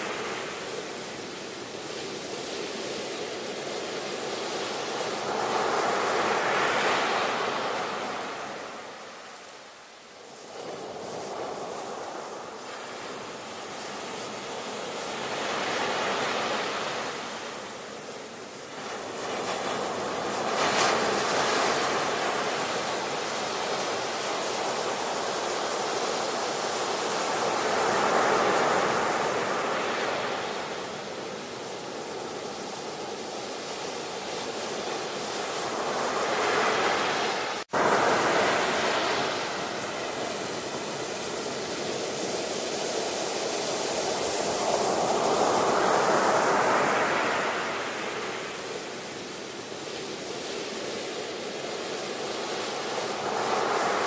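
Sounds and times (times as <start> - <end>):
waves breaking and washing in: 0.0 - 54.0.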